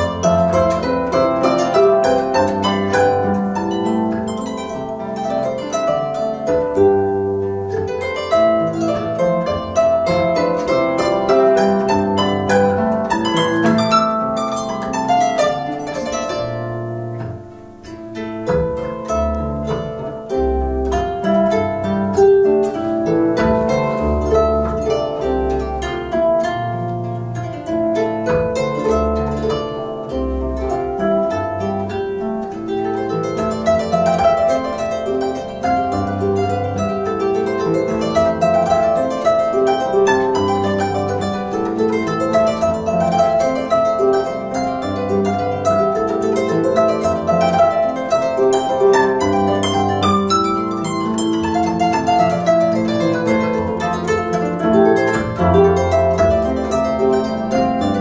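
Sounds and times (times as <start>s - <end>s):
harp playing melody and chords: 0.0s - 58.0s.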